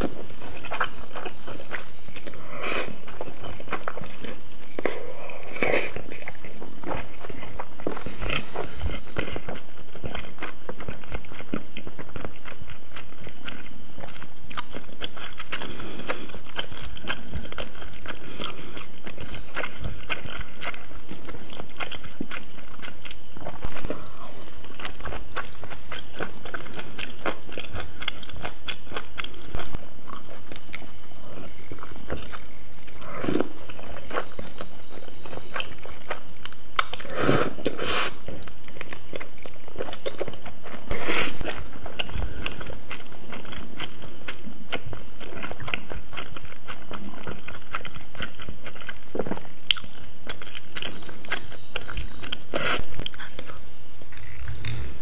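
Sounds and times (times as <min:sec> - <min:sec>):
chewing noodles with mouth clicks: 0:00.0 - 0:55.0.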